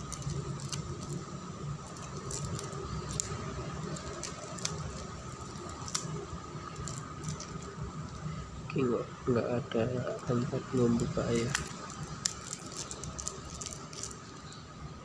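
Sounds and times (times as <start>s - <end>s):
cellophane crinkling: 0.0s - 8.3s, 10.1s - 14.6s
faint steady hum: 0.0s - 15.0s.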